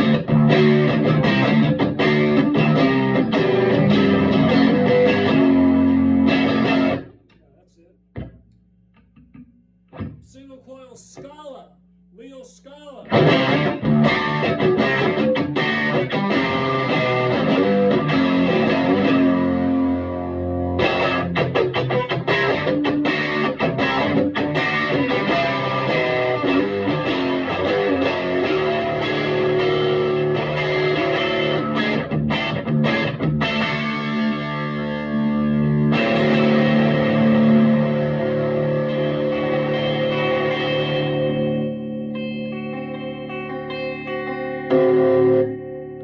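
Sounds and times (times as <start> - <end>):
electric guitar notes and chords: 0.0 - 7.5, 8.1 - 10.3, 13.0 - 46.0.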